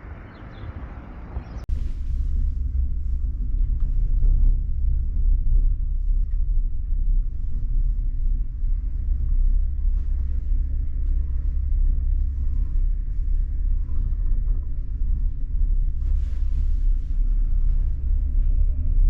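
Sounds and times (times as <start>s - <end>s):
gondola cabin rumbling: 0.0s - 19.0s.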